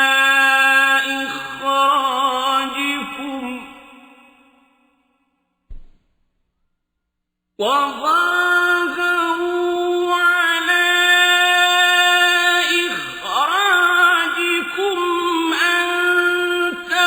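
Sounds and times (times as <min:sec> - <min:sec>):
man chanting melodically: 0:00.0 - 0:04.3, 0:07.6 - 0:17.0.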